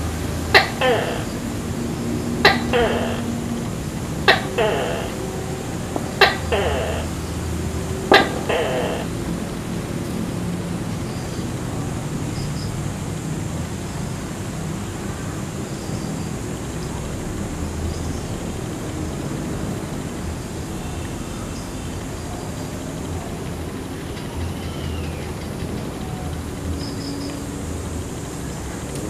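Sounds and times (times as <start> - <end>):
constant hiss: 0.0 - 29.0.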